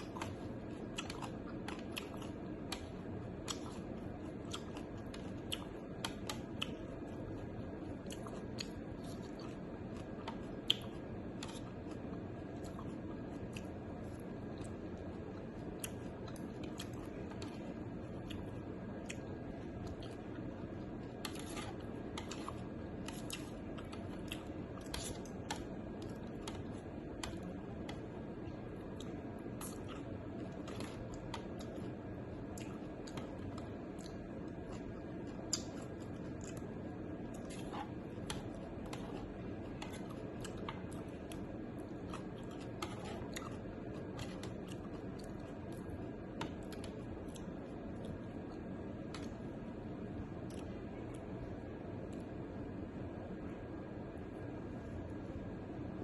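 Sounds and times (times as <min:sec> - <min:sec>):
person chewing: 0:00.0 - 0:49.4
low background noise: 0:00.0 - 0:56.0.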